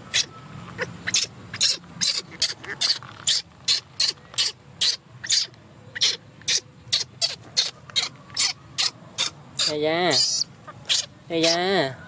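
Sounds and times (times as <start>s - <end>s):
baby monkey squealing: 0.1s - 11.7s.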